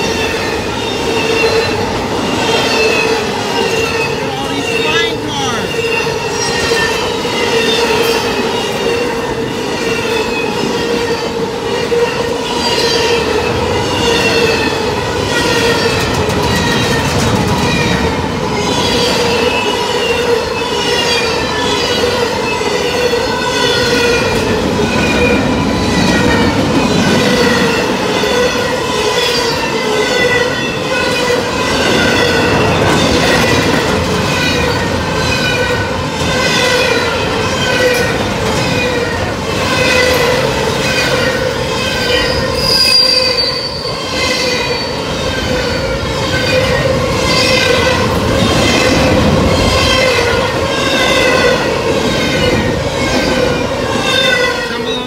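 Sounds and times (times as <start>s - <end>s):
train wheels clattering: 5.9s - 54.9s.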